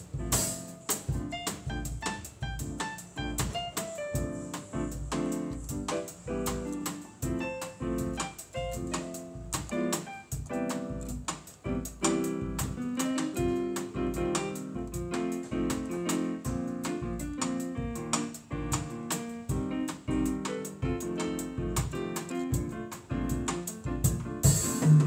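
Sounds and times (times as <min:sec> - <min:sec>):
electronic keyboard piano chords: 0:00.0 - 0:25.0.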